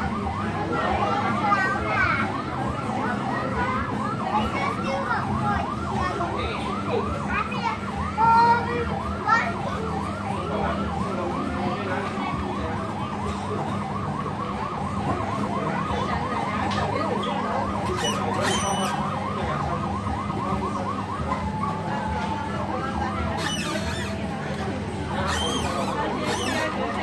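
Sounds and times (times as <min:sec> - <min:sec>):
fast yelping electronic siren: 0:00.0 - 0:27.0.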